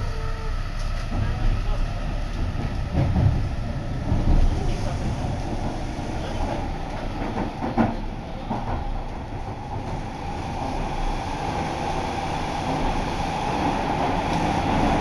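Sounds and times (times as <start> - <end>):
metro train rumble: 0.0 - 15.0.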